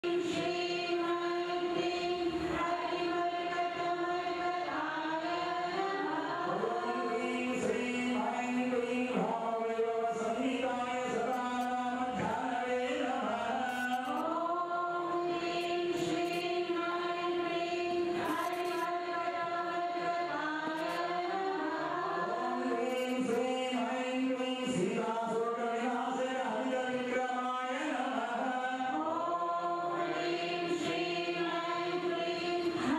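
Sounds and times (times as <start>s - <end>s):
voices chanting a hymn: 0.0s - 32.9s.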